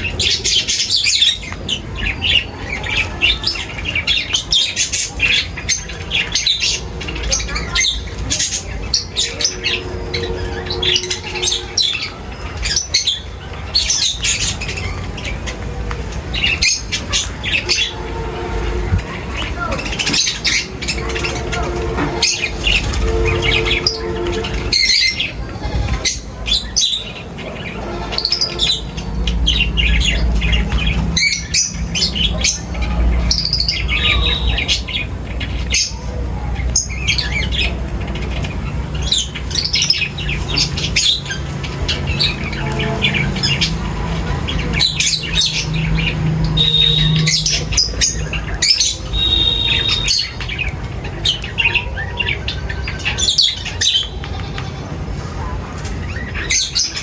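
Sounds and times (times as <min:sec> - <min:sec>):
flock of birds chirping and squawking: 0:00.0 - 0:57.0.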